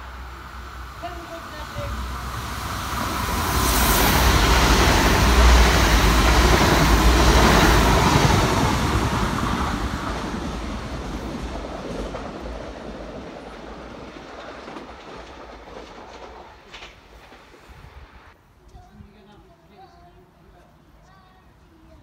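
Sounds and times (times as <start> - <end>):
diesel train passing at speed: 0.0 - 18.4.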